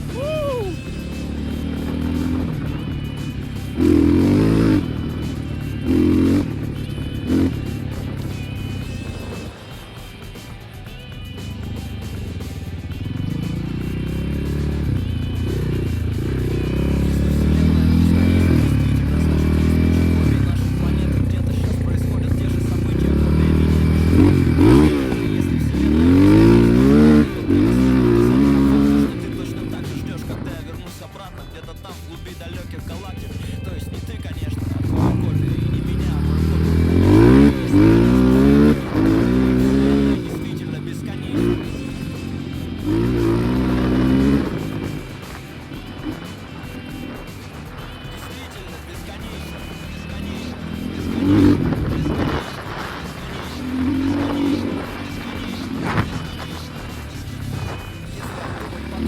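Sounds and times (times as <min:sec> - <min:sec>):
background music: 0:00.0 - 0:59.0
motorcycle engine revving: 0:00.0 - 0:59.0.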